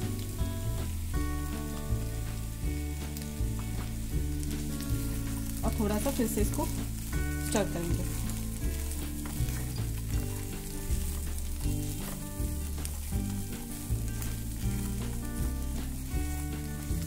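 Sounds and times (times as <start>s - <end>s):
background music: 0.0s - 17.0s
food sizzling in a pan: 0.0s - 17.0s
spatula stirring in a pan: 0.3s - 17.0s.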